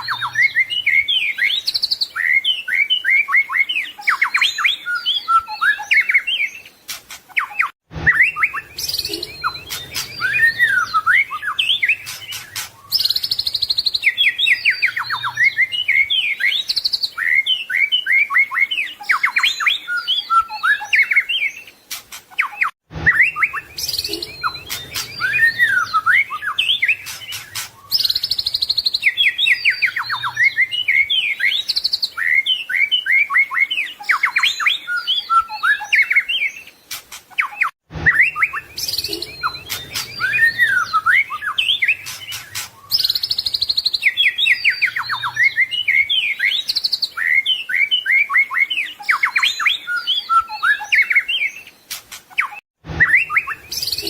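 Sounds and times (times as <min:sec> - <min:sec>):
songbird singing whistles and trills: 0:00.0 - 0:54.0.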